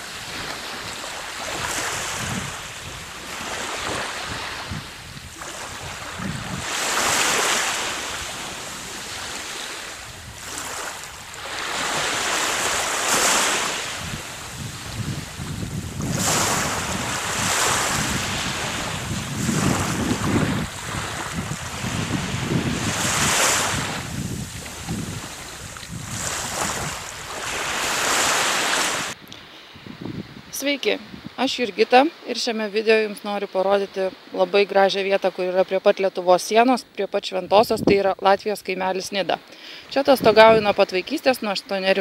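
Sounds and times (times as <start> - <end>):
wind rumbling on microphone: 0.0 - 31.8, 37.4 - 38.8, 39.9 - 41.2
sea surf breaking on shore: 0.0 - 35.8.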